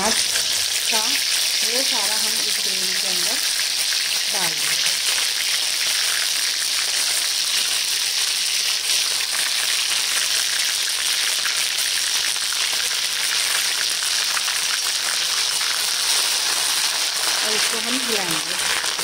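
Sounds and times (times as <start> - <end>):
spices sizzling in hot oil: 0.0 - 19.0.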